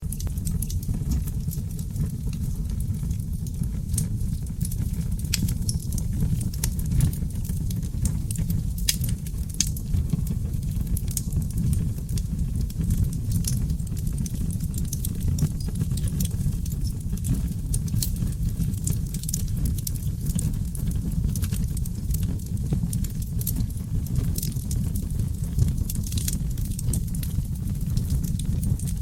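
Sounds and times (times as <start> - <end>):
roar of fire flames: 0.0 - 29.0
wood fire crackling and popping: 0.0 - 29.0.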